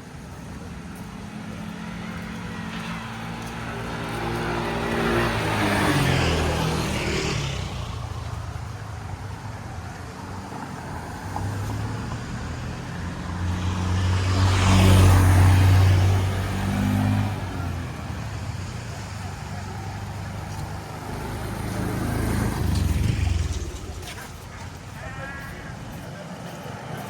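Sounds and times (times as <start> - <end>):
motor vehicles passing: 0.0 - 27.0.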